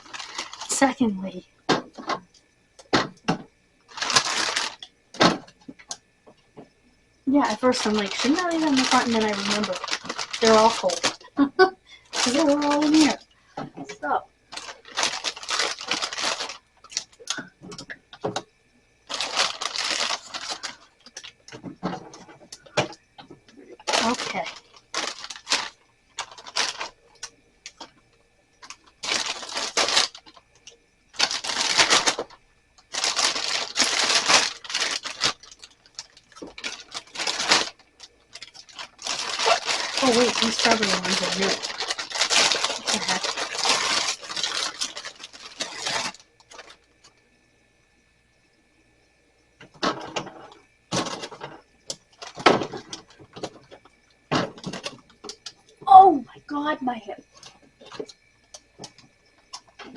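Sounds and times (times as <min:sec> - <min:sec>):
crackly rustling and clattering: 0:00.0 - 0:11.4, 0:12.0 - 0:47.3, 0:49.5 - 0:56.0, 0:57.2 - 0:59.9.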